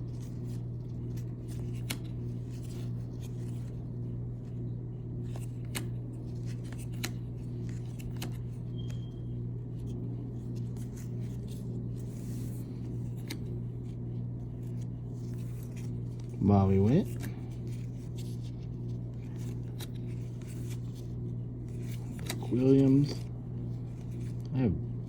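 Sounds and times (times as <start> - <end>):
steady low hum: 0.0 - 25.0
baseball cards clicking and snapping: 0.1 - 3.8, 5.2 - 24.5.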